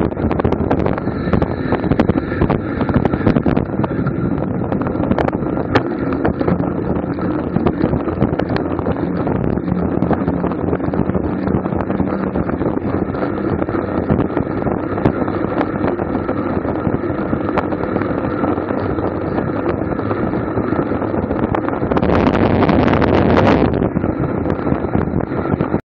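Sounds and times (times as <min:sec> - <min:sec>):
rolling road noise: 0:00.0 - 0:25.8
wind buffeting microphone: 0:00.0 - 0:25.8.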